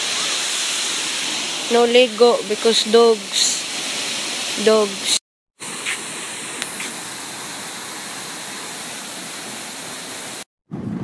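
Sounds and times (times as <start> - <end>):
waterfall rushing into pool: 0.0 - 10.5.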